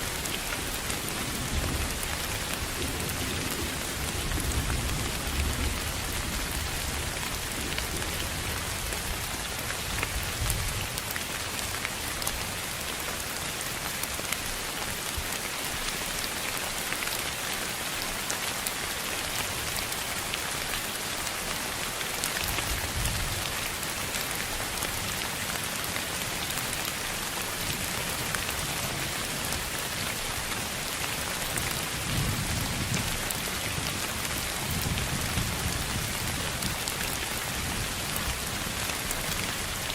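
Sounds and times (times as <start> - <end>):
rain-like rushing noise: 0.0 - 39.9.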